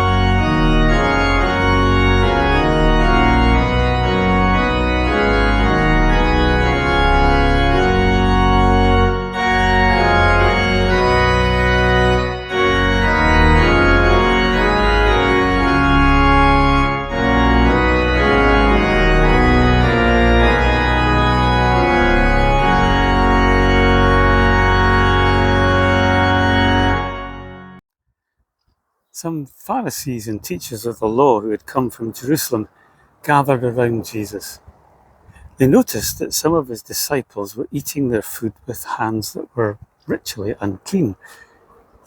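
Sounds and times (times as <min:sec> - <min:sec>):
organ playing chords: 0:00.0 - 0:27.8, 0:29.3 - 0:42.0.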